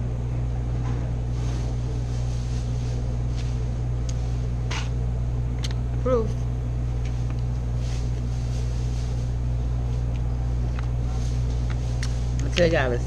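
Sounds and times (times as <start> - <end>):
air-conditioning hum: 0.0 - 13.0.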